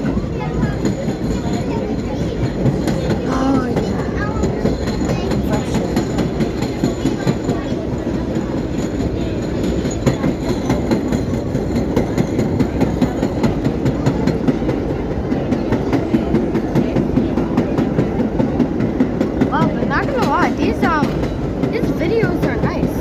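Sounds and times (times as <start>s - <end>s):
subway car rumble: 0.0s - 23.0s
wheels clicking over rail joints: 0.0s - 23.0s.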